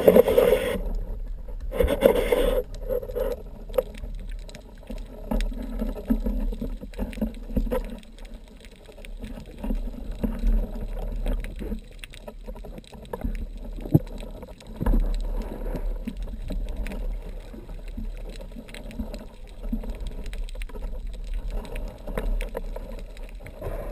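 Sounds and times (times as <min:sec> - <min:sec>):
muffled underwater water movement: 0:00.0 - 0:23.9.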